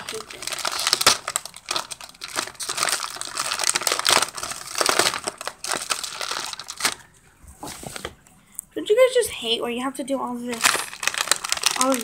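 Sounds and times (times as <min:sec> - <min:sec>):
plastic wrapper crinkling: 0:00.0 - 0:08.2, 0:10.5 - 0:12.0.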